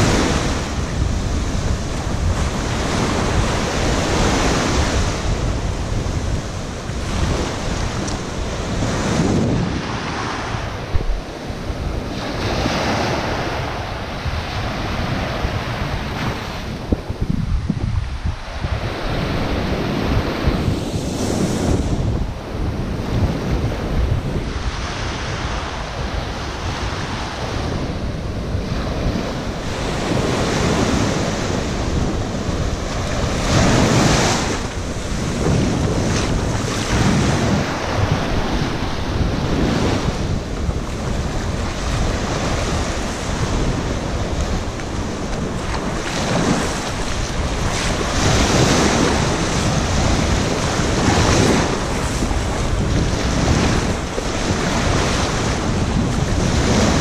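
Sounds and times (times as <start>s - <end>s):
surf washing up a sandy shore: 0.0s - 57.0s
wind buffeting microphone: 0.0s - 57.0s.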